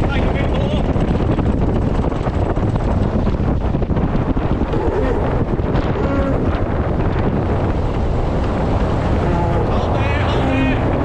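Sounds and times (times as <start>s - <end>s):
water rushing along hulls: 0.0s - 11.0s
wind buffeting microphone: 0.0s - 11.0s.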